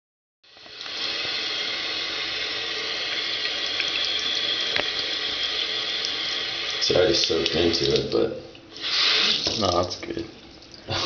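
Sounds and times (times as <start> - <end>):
running water: 0.4 - 11.0.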